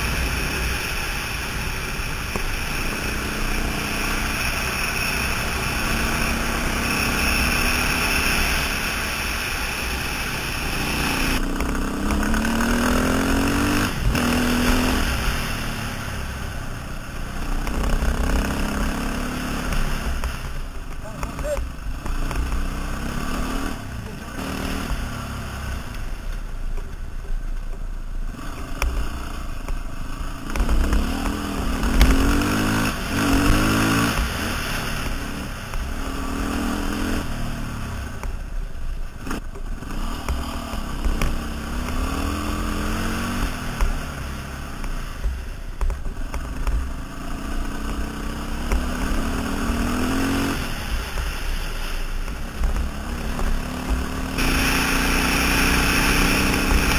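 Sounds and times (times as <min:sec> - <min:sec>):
quad bike engine revving: 0:00.0 - 0:26.2, 0:28.3 - 0:38.4, 0:39.2 - 0:56.9.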